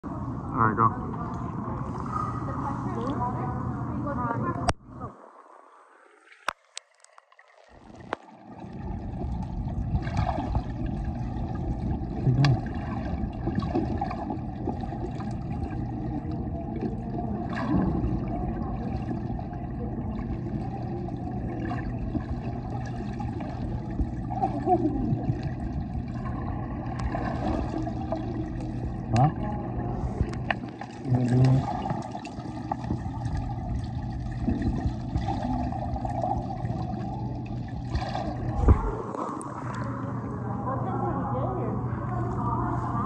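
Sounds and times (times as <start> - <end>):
constant low hum: 0.0 - 5.9, 7.6 - 43.0
pool water churning and sloshing: 0.0 - 43.0.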